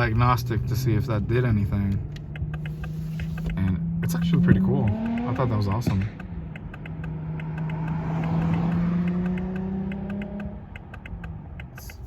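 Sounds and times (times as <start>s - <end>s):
car engine humming: 0.0s - 12.0s
faint regular ticking: 0.0s - 12.0s.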